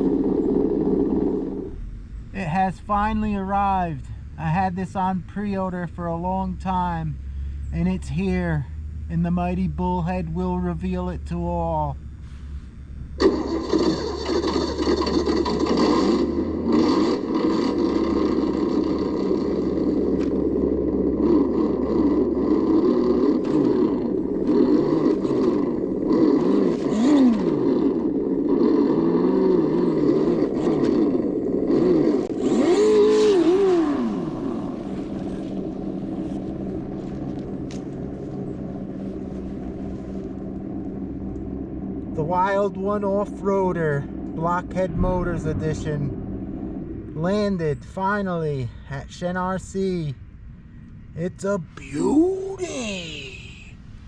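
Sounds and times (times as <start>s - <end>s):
engine revving: 0.0s - 48.4s.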